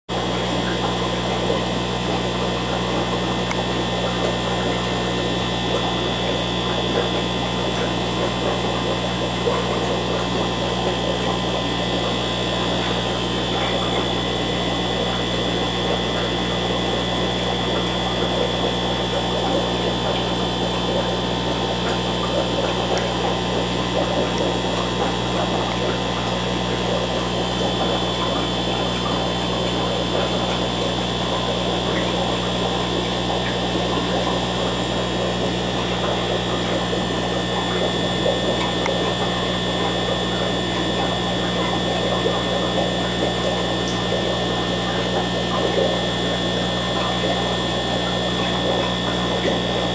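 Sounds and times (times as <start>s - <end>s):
aquarium equipment humming: 0.1s - 49.9s.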